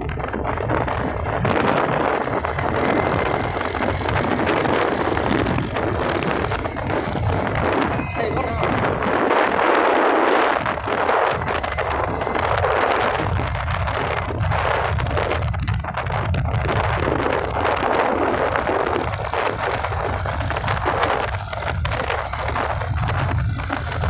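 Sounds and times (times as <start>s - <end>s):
low rumble of scooter ride: 0.0s - 24.0s
wind buffeting microphone: 0.0s - 24.0s.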